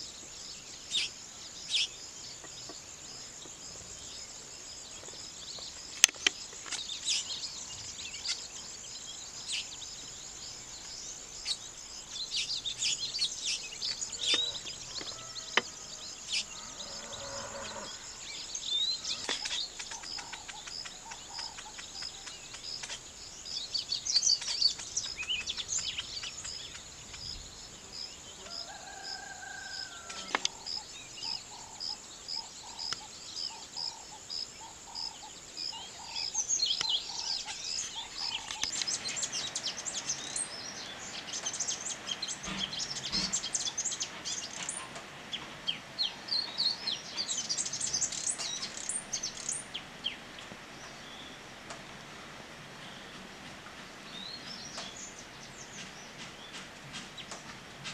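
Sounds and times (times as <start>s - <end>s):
birds chirping and chattering: 0.0s - 29.3s, 30.0s - 51.8s
steady high hiss: 0.0s - 57.9s.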